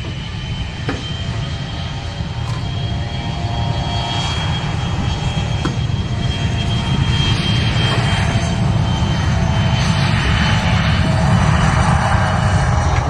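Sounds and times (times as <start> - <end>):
aircraft engines rumbling: 0.0 - 13.0
high engine whine: 0.0 - 13.0.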